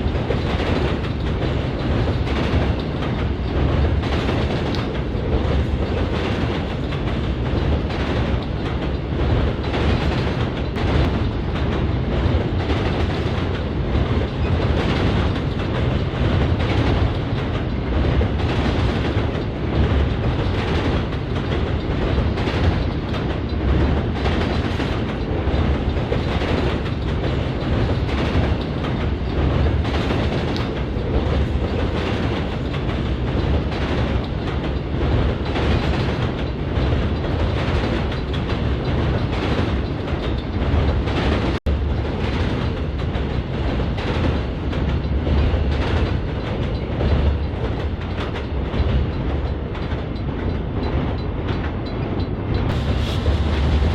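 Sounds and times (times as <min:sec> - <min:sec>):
freight train rumble: 0:00.0 - 0:53.9
wheels clacking over rail joints: 0:00.0 - 0:53.9.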